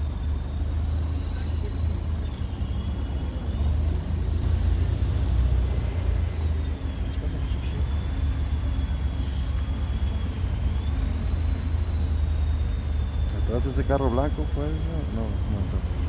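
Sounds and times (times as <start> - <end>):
pickup truck engine rumble: 0.0 - 16.0.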